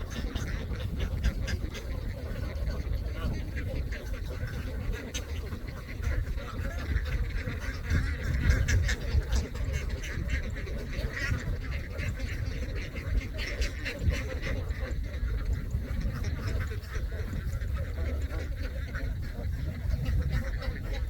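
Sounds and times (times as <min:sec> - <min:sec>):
ducks quacking: 0:00.0 - 0:21.0
steady low rumble: 0:00.0 - 0:21.0.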